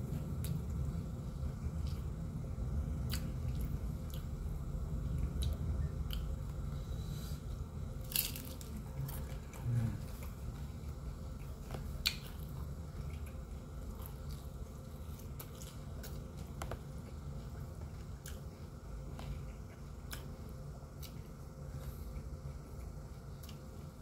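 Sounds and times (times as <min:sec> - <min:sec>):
low hum: 0:00.0 - 0:24.0
man chewing food: 0:00.0 - 0:24.0.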